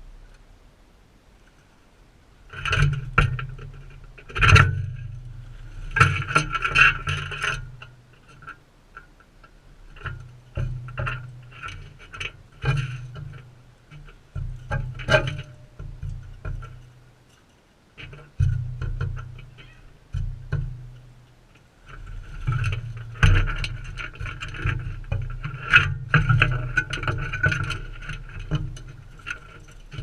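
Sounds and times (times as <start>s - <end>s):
birds knocking and scraping: 2.5s - 30.0s.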